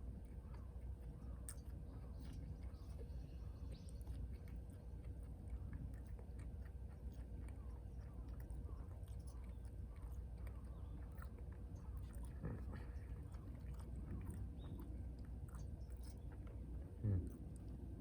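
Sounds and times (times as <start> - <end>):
person chewing a sandwich: 0.0 - 18.0.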